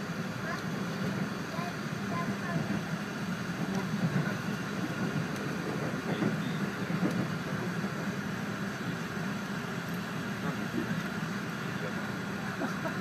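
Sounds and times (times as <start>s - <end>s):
train cabin low drone: 0.0s - 13.0s.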